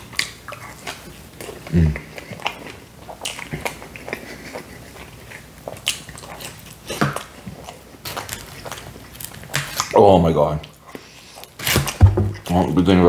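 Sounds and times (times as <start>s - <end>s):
person chewing pizza: 0.0s - 13.0s.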